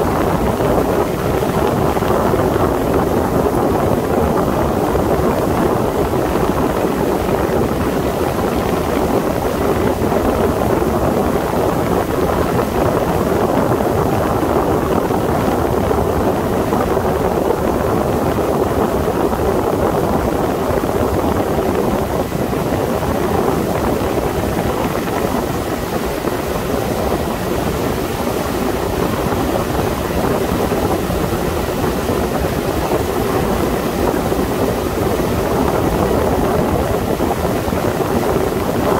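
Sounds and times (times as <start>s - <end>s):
wind and water rushing: 0.0s - 38.9s.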